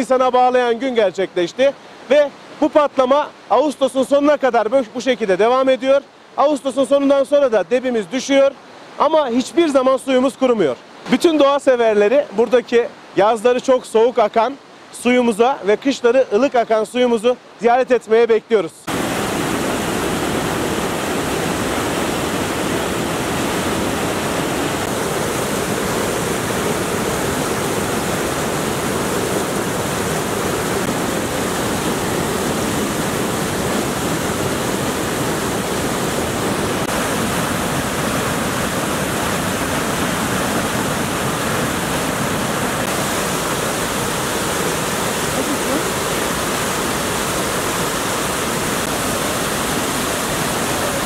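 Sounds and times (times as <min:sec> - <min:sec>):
waterfall rushing over rocks: 0:00.0 - 0:51.0.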